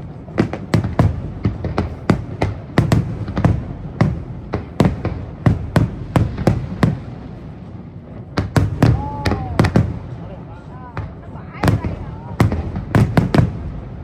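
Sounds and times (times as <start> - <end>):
fireworks bangs: 0.0 - 14.0
low rumbling echoes: 0.0 - 14.0.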